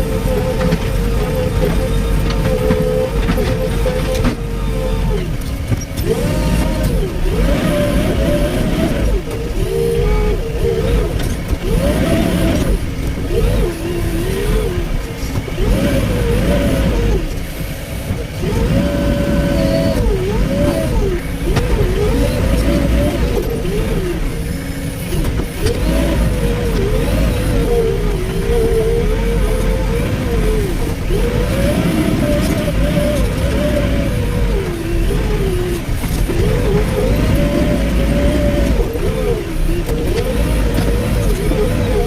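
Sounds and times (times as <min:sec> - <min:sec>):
excavator diesel engine under load: 0:00.0 - 0:42.0.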